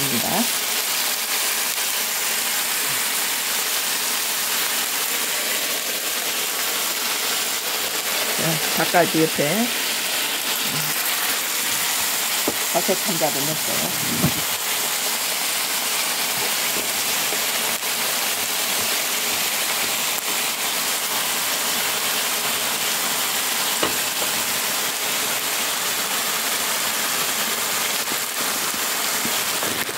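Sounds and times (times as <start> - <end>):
chicken sizzling in a frying pan: 0.0 - 29.9.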